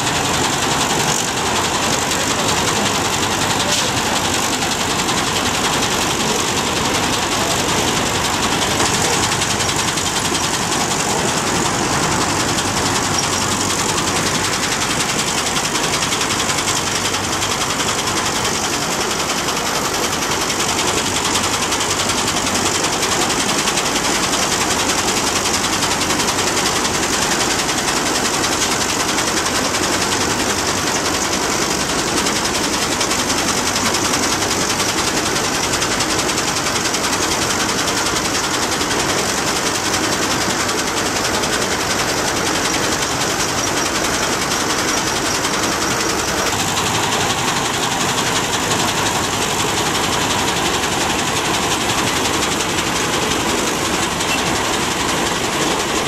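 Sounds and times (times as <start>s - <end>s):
combine harvester clatter: 0.0s - 56.0s.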